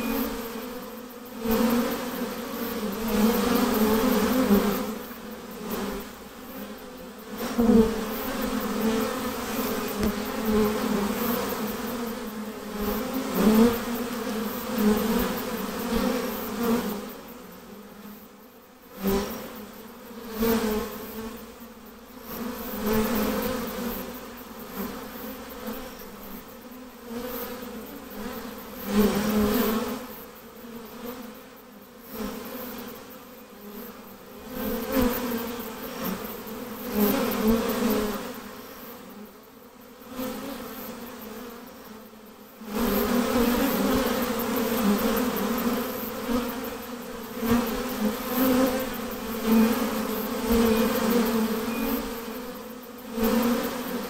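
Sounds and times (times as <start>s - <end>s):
bee swarm buzzing: 0.0s - 54.0s.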